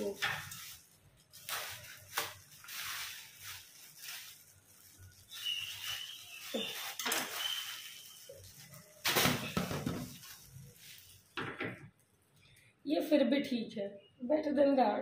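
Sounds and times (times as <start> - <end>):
plastic wrapping crinkling: 0.0 - 12.6.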